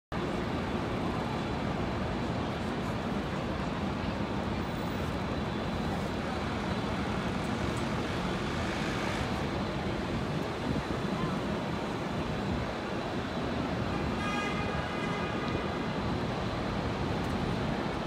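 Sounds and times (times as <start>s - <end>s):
city traffic noise: 0.1s - 18.0s.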